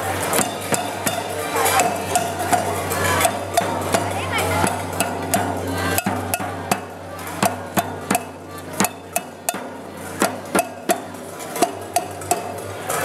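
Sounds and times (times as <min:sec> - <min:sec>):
bass drum beating: 0:00.0 - 0:12.6.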